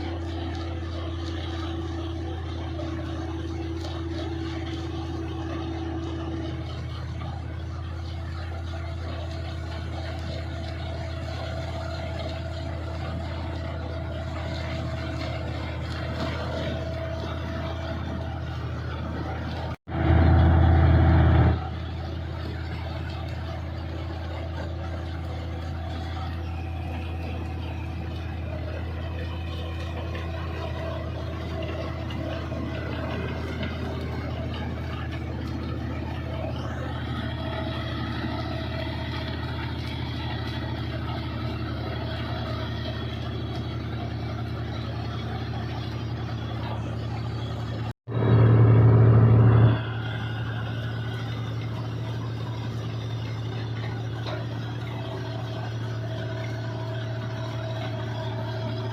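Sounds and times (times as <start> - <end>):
combine harvester engine running: 0.0 - 58.9.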